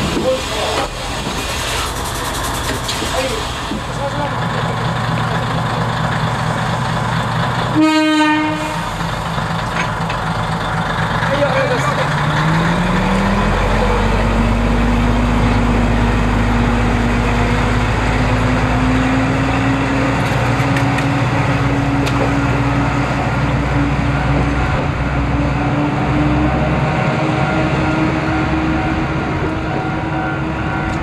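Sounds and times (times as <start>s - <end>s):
diesel railcar engine pulling away: 0.0s - 31.0s.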